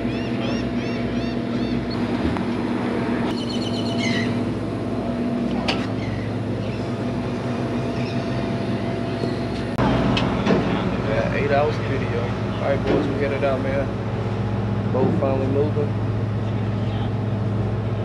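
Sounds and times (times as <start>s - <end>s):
birds calling: 0.0s - 15.4s
boat engine humming: 0.0s - 18.0s.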